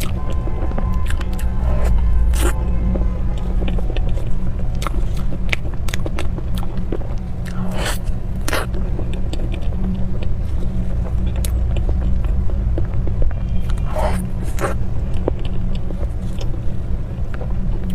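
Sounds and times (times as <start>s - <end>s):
steady low rumble: 0.0s - 17.9s
biting and chewing pastries: 3.4s - 17.9s.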